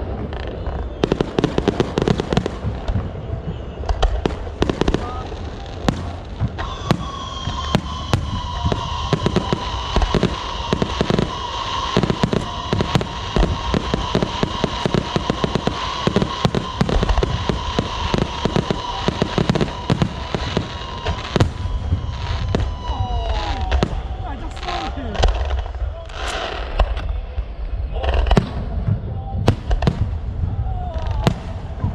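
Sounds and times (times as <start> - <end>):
falling firework whistles: 0.0 - 27.0
fireworks bangs and crackles: 0.0 - 31.9.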